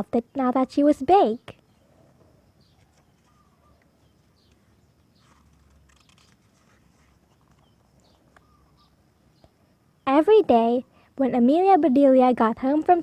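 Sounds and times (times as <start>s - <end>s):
faint bird chirps: 0.0s - 11.4s.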